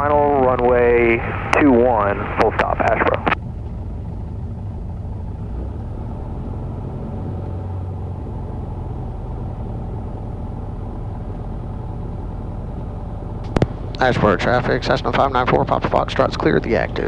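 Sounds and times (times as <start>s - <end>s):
propeller plane engine idling: 0.0s - 17.0s.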